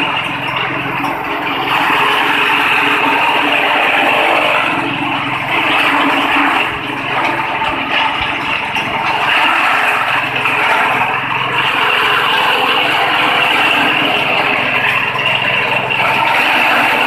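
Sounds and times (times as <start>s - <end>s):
grass chopper engine running: 0.0s - 17.0s.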